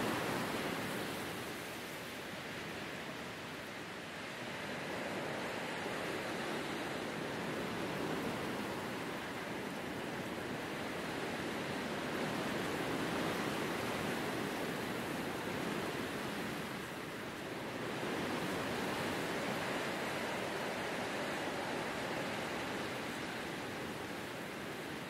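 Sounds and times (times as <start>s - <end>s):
wind rushing through grass: 0.0s - 25.0s.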